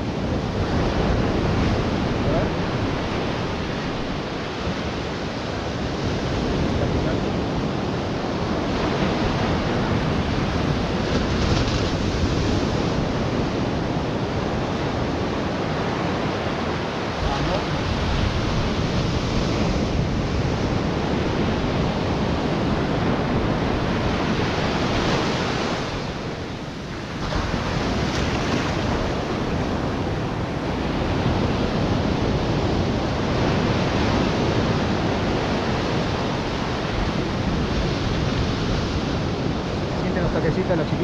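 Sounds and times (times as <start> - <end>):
surf breaking on a beach: 0.0 - 41.0
wind buffeting the microphone: 0.0 - 41.0.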